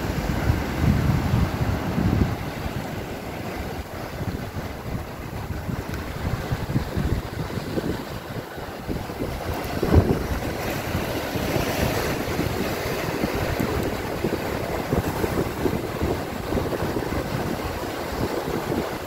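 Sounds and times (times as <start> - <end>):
surf washing on rocks: 0.0 - 19.0
wind buffeting microphone: 0.0 - 19.0.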